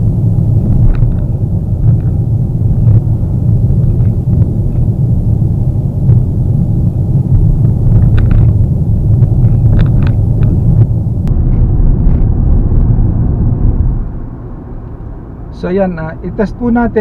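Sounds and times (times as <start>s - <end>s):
road and tyre rumble in car cabin: 0.0s - 17.0s.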